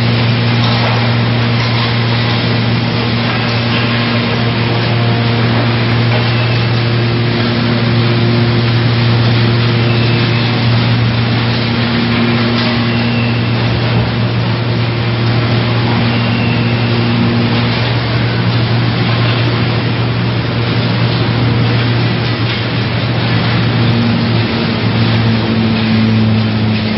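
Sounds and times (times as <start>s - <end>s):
shredder and conveyor running: 0.0s - 26.9s.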